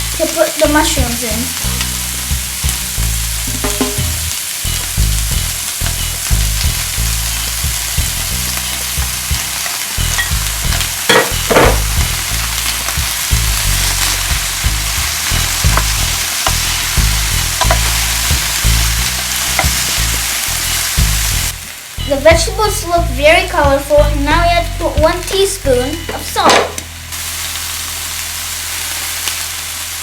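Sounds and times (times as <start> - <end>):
vegetables sizzling in a pan: 0.0 - 30.0.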